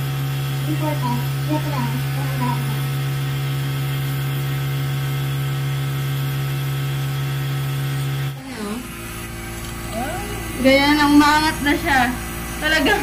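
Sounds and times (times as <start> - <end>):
dental suction humming: 0.0 - 13.0.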